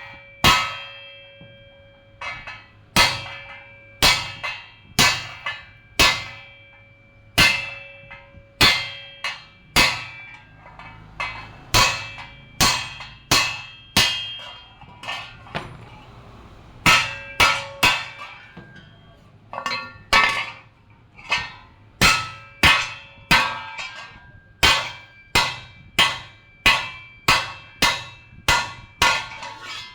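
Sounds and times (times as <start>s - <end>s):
hammer striking metal: 0.0s - 29.9s.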